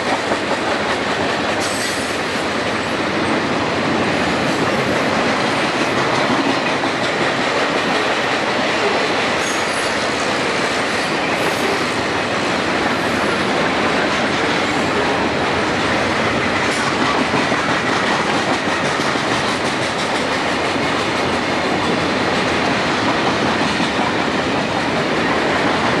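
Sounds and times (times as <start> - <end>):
train wheels rushing on track: 0.0 - 26.0.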